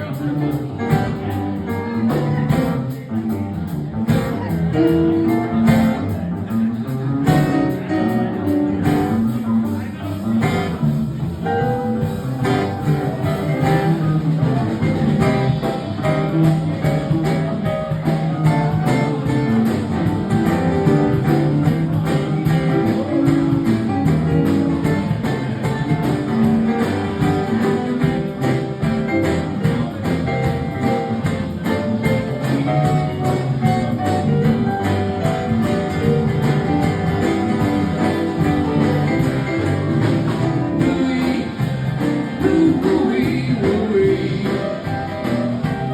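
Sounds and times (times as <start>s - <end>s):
acoustic guitar playing: 7.4s - 45.9s.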